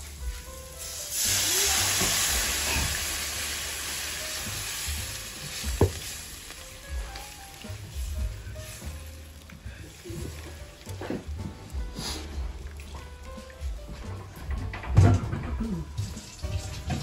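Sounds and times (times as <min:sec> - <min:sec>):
food sizzling in a hot pan: 0:00.0 - 0:12.8, 0:16.0 - 0:17.0.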